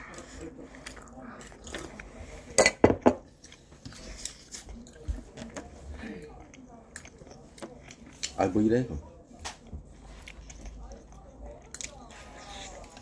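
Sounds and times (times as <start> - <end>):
chewing: 0.0 - 2.6, 3.2 - 8.6, 9.5 - 13.0.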